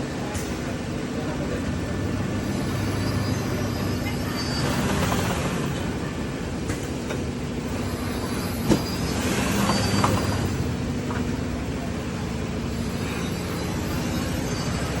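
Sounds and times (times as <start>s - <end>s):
machinery droning: 0.0s - 15.0s.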